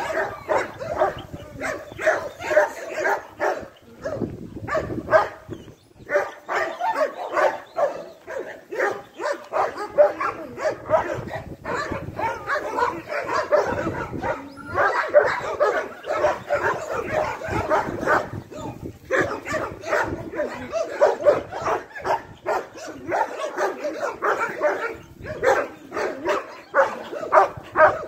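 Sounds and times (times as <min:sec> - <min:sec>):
dogs barking: 0:00.0 - 0:28.0.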